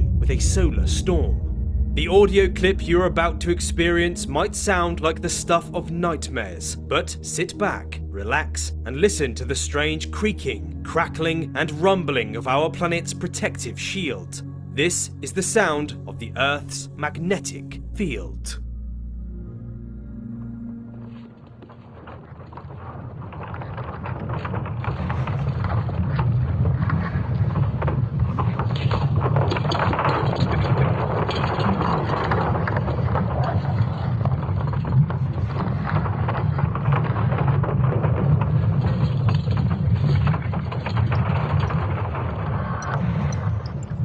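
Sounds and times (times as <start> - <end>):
dense rumble with crackling: 0.0 - 44.0.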